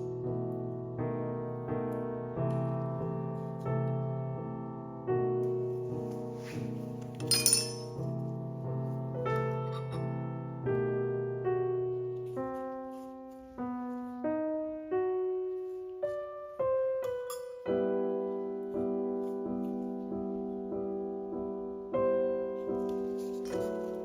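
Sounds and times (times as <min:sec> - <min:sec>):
slow solo piano melody: 0:00.0 - 0:24.0.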